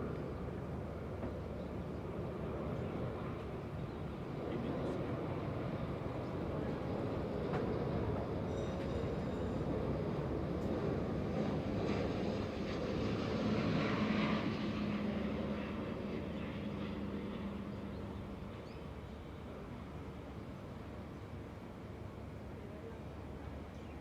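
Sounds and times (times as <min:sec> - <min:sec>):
airliner jet engines rumbling: 0:00.0 - 0:24.0.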